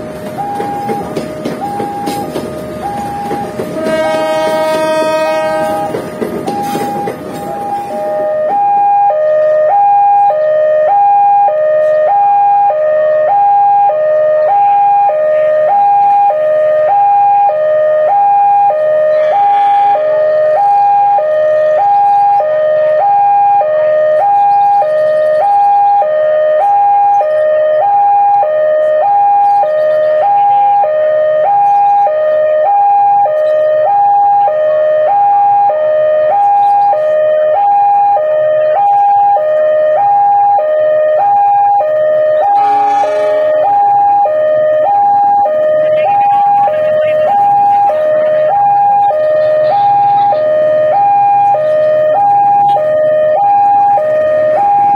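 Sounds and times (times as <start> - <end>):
two-tone crossing alarm: 0.0 - 54.9.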